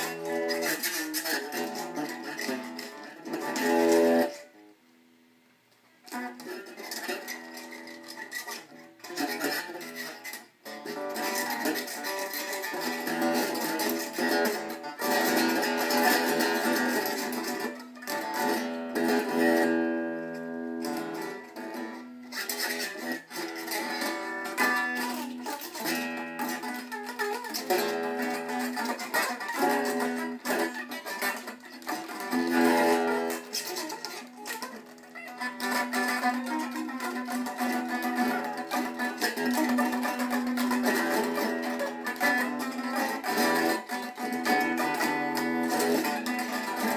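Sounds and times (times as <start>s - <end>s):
electric guitar strummed and picked: 0.0s - 4.7s, 6.0s - 46.9s.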